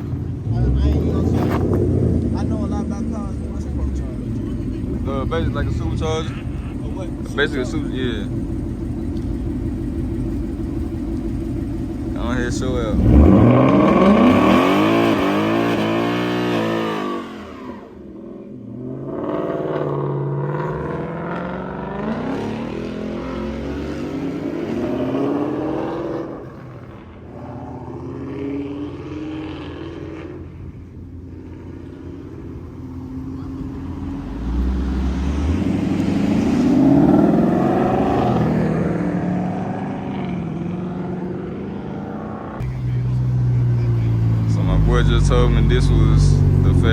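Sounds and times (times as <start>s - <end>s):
supercharged car engine revving: 0.0s - 46.9s.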